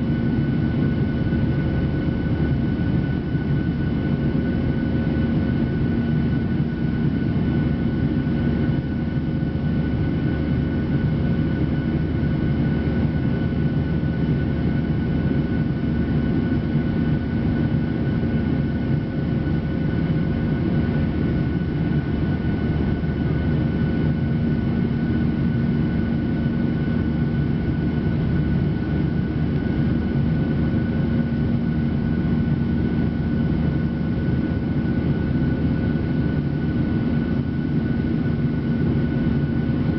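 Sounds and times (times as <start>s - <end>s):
constant hum tones: 0.0s - 39.9s
jet engine cabin rumble: 0.0s - 39.9s.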